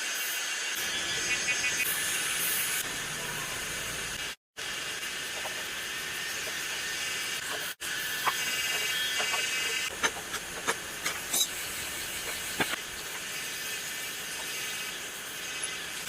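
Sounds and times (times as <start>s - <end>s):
steady hissing noise: 0.0s - 16.0s.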